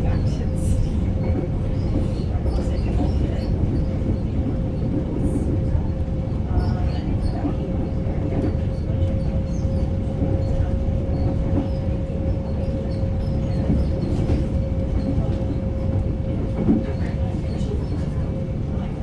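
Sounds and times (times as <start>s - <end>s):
train rumble inside carriage: 0.0s - 19.0s.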